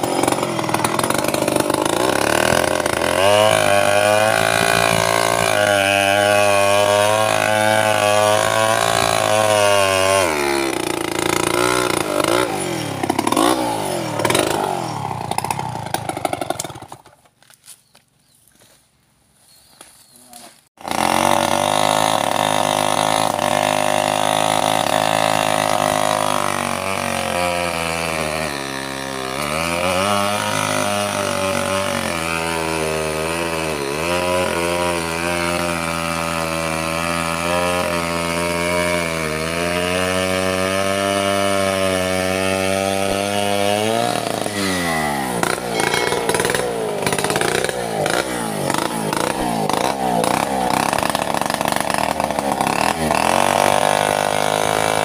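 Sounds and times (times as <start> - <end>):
chainsaw cutting log: 0.0 - 17.4, 20.7 - 55.0.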